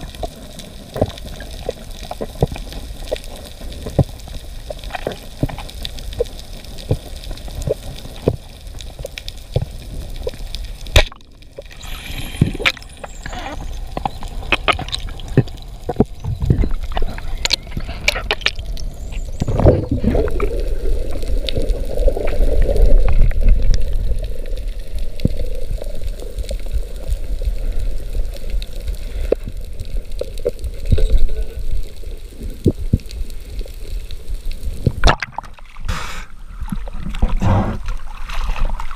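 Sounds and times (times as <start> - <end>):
underwater hiss and bubbling: 0.0 - 38.9.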